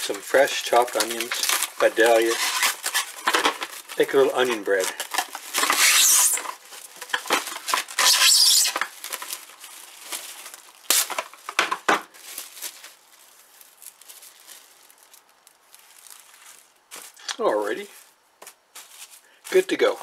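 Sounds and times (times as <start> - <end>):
cling wrap pulled off roll: 0.0 - 17.4
plastic film crinkling: 0.0 - 20.0.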